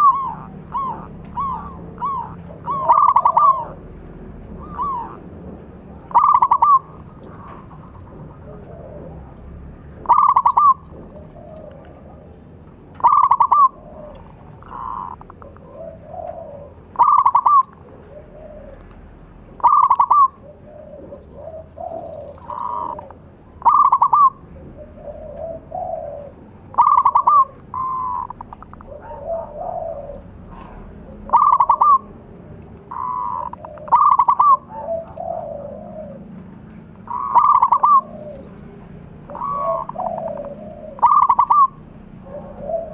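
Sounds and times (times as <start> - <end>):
doves cooing: 0.0 - 42.9.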